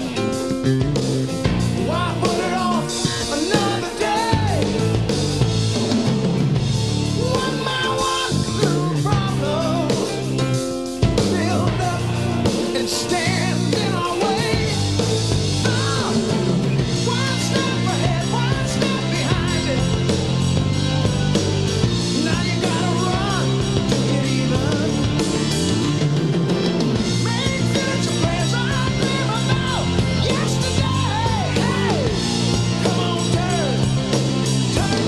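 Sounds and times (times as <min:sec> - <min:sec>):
rock song with singing: 0:00.0 - 0:35.0.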